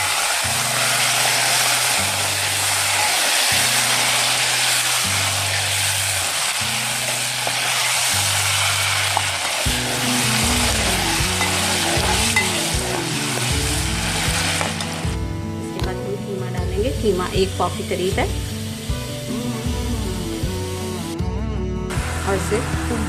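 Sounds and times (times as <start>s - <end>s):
onion sizzling in hot oil: 0.0s - 21.2s, 21.9s - 23.0s
background music: 0.0s - 23.0s.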